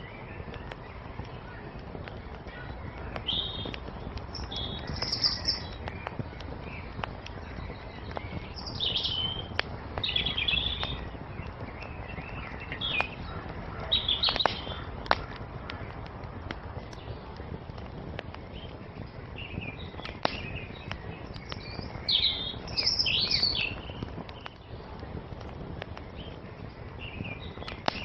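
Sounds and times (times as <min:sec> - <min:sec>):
songbirds chirping: 0:00.0 - 0:28.0
wood fire crackling and popping: 0:00.0 - 0:28.0.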